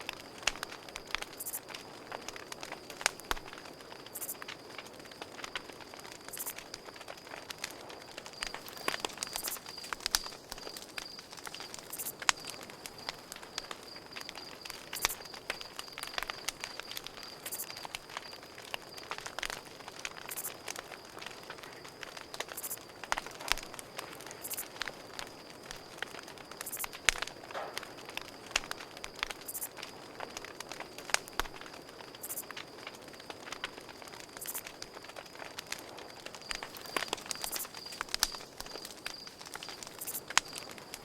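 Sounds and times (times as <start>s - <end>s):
campfire crackling and popping: 0.0s - 41.0s
crickets chirping: 0.0s - 41.0s.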